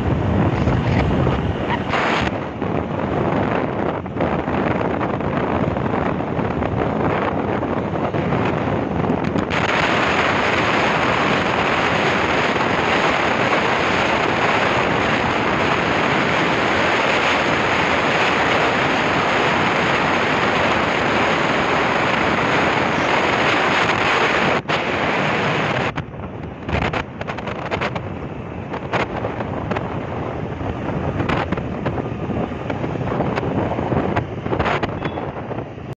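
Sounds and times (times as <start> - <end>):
road noise: 0.0 - 35.9
wind rushing over microphone: 0.0 - 35.9.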